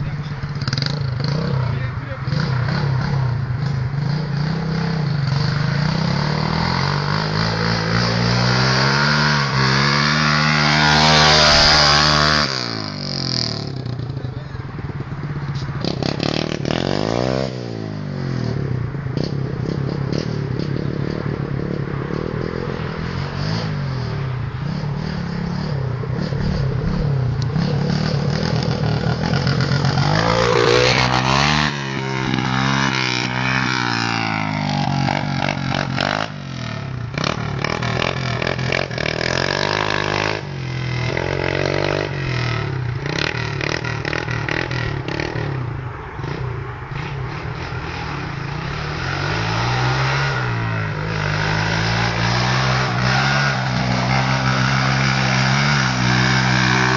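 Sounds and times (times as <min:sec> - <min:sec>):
pit bike engine revving: 0:00.0 - 0:56.9.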